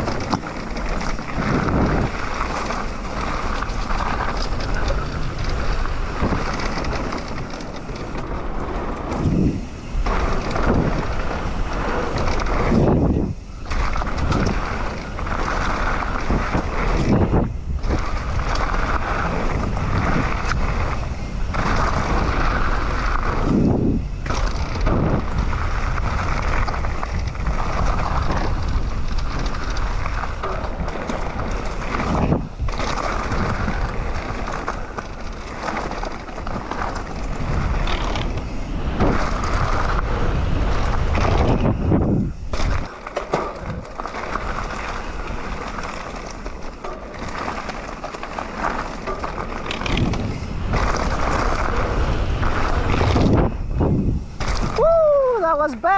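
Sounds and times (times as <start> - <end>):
bike tyres rolling on dirt: 0.0 - 55.9
wind rushing over microphone: 0.0 - 55.9.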